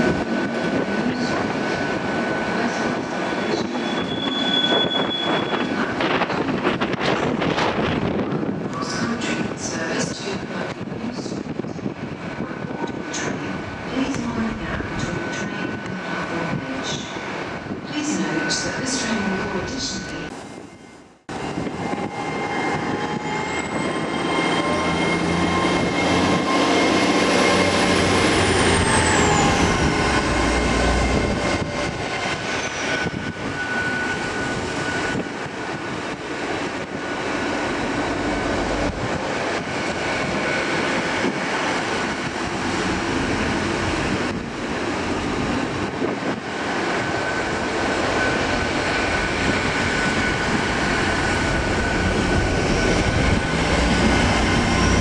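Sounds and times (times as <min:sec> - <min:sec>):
train traction whine: 0:00.0 - 0:08.8, 0:13.5 - 0:55.0
train wheels rumbling on rails: 0:00.0 - 0:18.0, 0:21.3 - 0:55.0.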